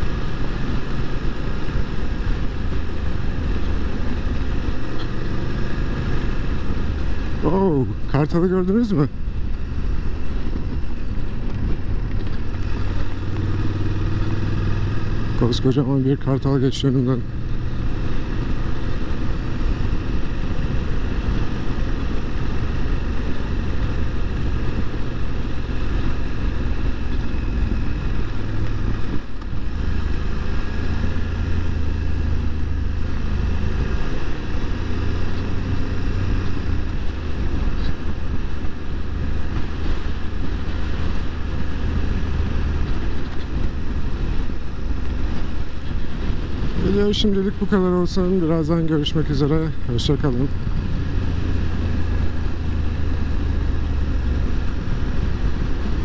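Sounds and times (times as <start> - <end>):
motorcycle engine running: 0.0 - 56.0
wind: 0.0 - 56.0.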